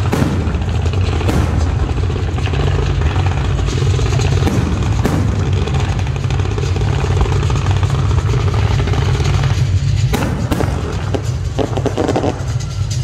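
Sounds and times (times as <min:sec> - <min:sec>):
sharp firework cracks: 0:00.0 - 0:12.8
fireworks booming: 0:00.0 - 0:13.0.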